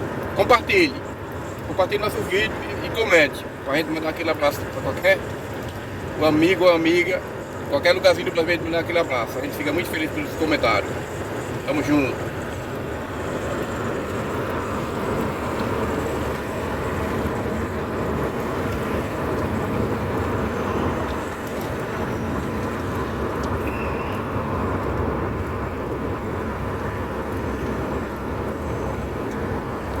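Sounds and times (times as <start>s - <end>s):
car engine hum: 0.0s - 30.0s
car road noise: 0.0s - 30.0s.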